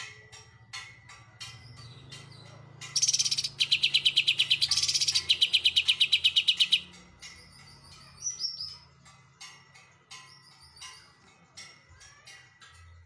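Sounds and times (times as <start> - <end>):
bird singing rapid trill: 1.4 - 13.0.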